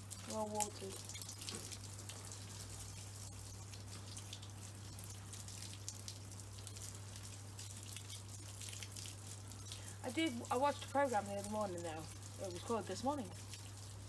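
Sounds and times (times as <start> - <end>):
hose water spraying on leaves: 0.0 - 14.0.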